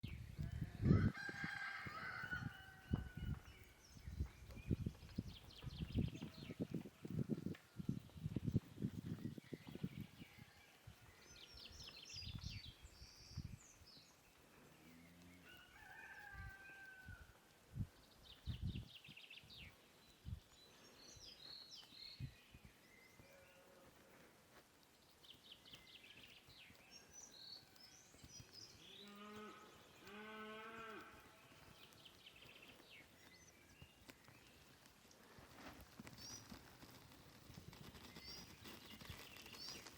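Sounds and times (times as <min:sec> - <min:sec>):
small birds chirping: 0:00.0 - 0:15.7, 0:17.5 - 0:39.9.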